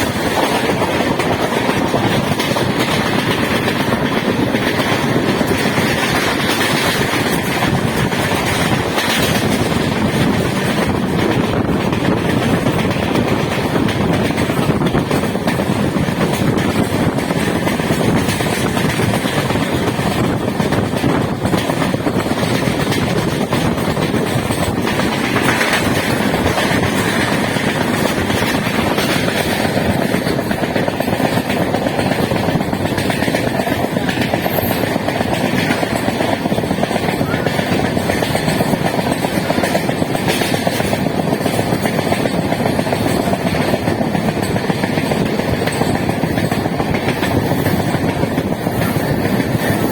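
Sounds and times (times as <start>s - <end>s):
moving train running noise: 0.0s - 49.9s.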